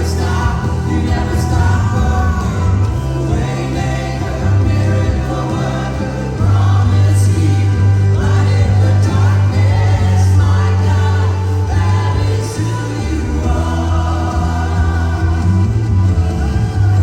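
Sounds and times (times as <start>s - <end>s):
band with strong bass line: 0.0s - 17.0s
choir singing gospel music: 0.0s - 17.0s.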